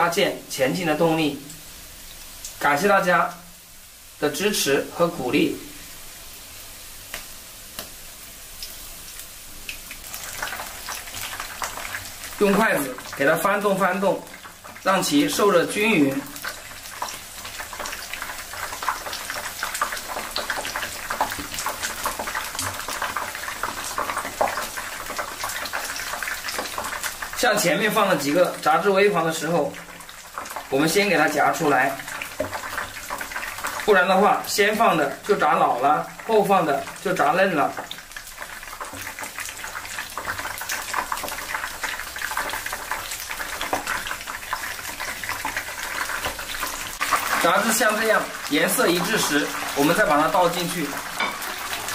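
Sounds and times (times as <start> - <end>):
food deep-frying in oil: 0.0 - 51.9.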